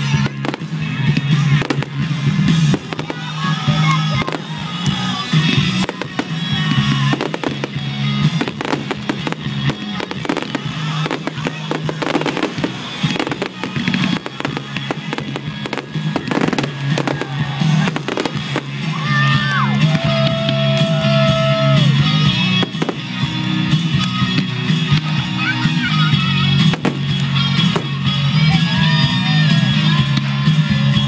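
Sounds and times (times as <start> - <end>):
fireworks bangs and crackles: 0.0 - 31.0
music playing: 0.0 - 31.0.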